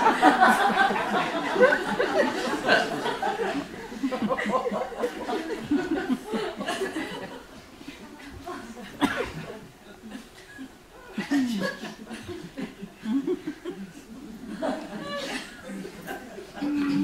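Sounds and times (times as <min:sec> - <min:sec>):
murmuring voices: 0:00.0 - 0:17.0
people laughing: 0:00.0 - 0:17.0.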